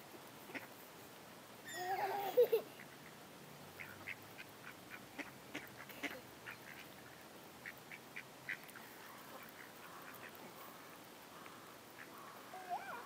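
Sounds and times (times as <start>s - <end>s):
ducks quacking quietly: 0.4s - 1.2s, 1.9s - 13.0s.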